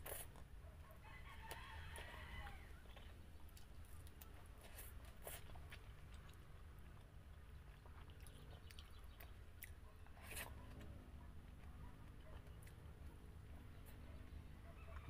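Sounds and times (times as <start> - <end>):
faint chewing: 0.0 - 15.0
low steady hum: 0.0 - 15.0.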